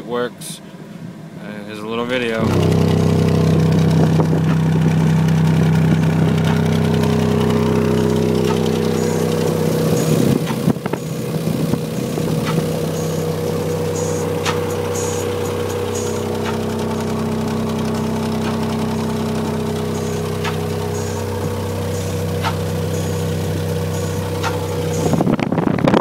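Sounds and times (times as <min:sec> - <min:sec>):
loud deep bass tones: 0:01.8 - 0:26.0.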